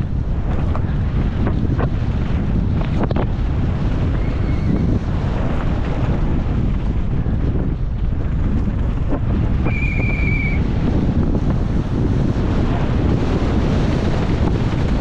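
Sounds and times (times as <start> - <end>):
tyres rumbling over loose dirt: 0.0 - 15.0
wind rushing over microphone: 0.0 - 15.0.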